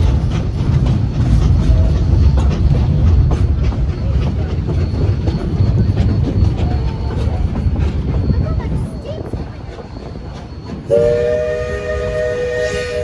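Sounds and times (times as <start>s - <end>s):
wheels clacking over rail joints: 0.0s - 11.0s
train car rumbling on track: 0.0s - 13.0s.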